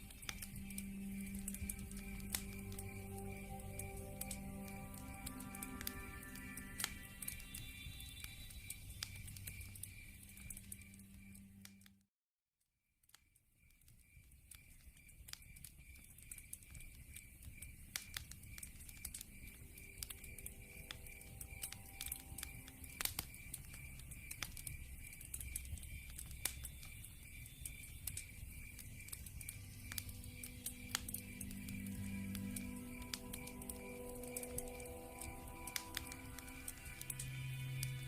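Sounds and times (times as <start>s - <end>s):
log fire crackling: 0.0s - 11.8s, 13.8s - 38.0s
insect chirping: 0.0s - 11.9s, 13.3s - 38.0s.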